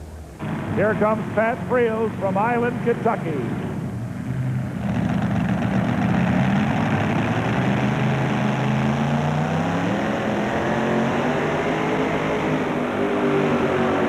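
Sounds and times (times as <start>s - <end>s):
truck engine at full throttle: 0.0s - 14.0s.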